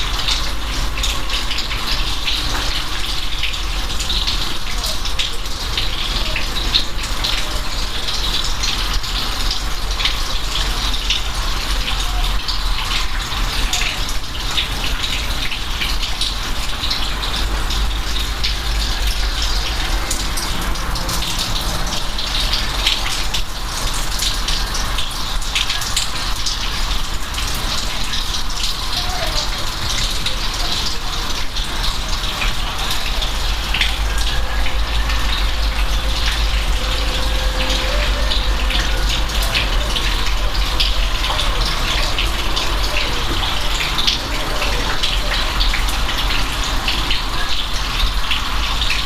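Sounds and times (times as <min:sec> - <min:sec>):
rain drops pattering: 0:00.0 - 0:49.0.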